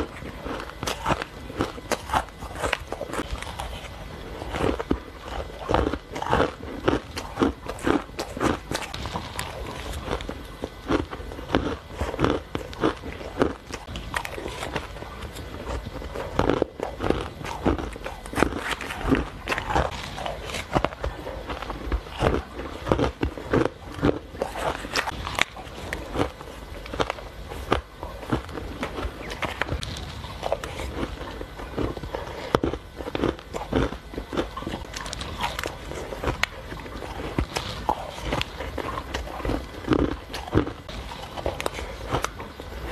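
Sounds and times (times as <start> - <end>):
crunching and chewing ice: 0.0 - 42.9.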